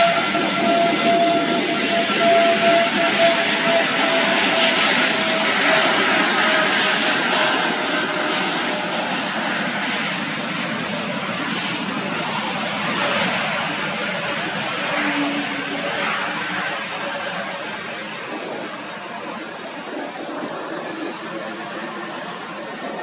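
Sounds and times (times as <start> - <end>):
airliner engines rushing and whining: 0.0 - 23.0.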